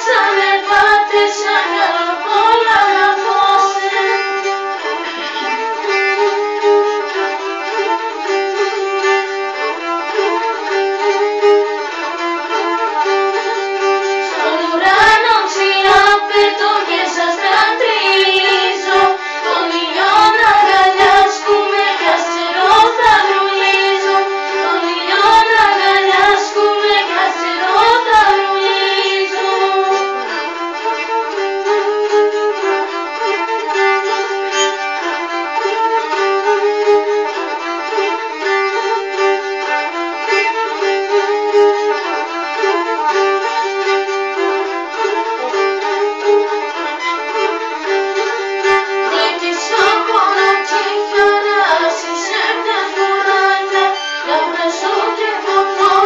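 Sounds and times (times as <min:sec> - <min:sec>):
bowed lyra melody: 0:00.0 - 0:56.0.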